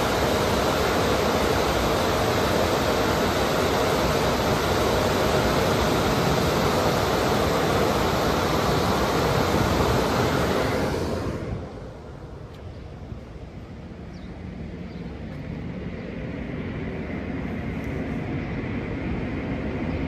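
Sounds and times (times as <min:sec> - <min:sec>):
car wash dryers blowing air: 0:00.0 - 0:20.0.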